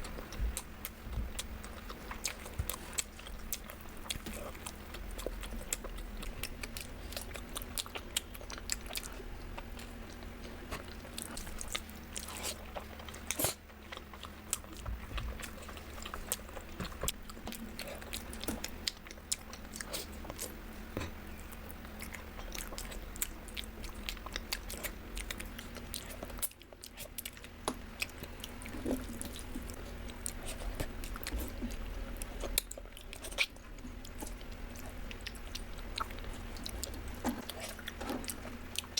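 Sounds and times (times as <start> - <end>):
crunchy chewing: 0.0 - 38.9
faint steady hum: 0.0 - 38.9.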